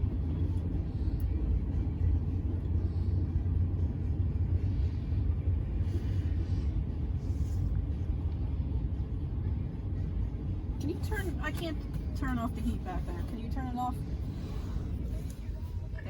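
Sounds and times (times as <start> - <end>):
car cabin road and engine noise: 0.0 - 16.0.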